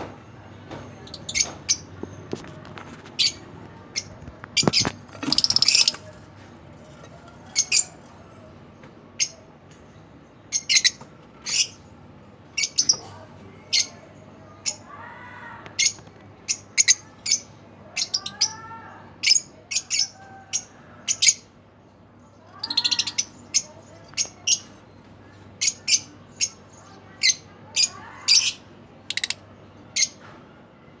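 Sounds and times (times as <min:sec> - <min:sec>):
birds chirping: 0:00.3 - 0:21.6, 0:22.4 - 0:30.2.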